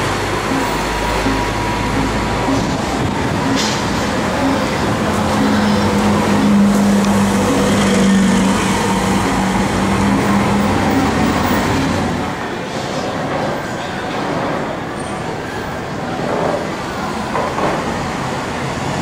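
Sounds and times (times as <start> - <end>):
bus driving past: 0.0 - 19.0.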